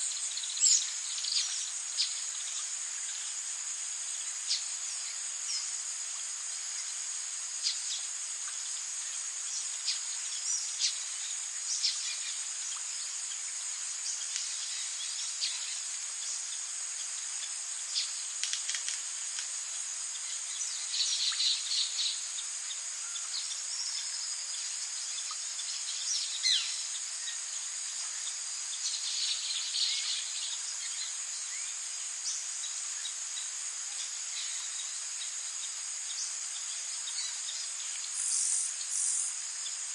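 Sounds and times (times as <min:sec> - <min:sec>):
insects trilling drone: 0:00.0 - 0:39.9.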